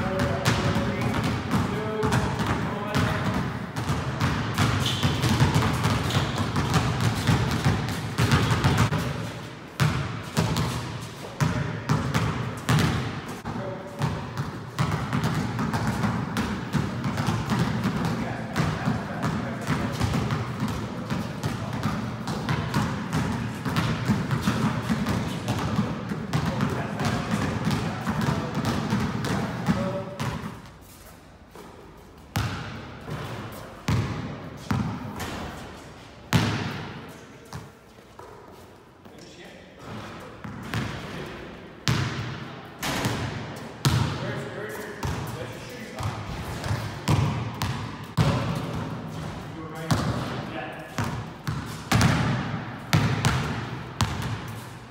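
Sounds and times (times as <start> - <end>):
basketball bouncing on court floor: 0.0 - 10.8, 11.4 - 30.7, 32.3 - 35.6, 36.3 - 38.4, 39.8 - 41.2, 41.8 - 44.3, 45.0 - 45.4, 46.0 - 54.6.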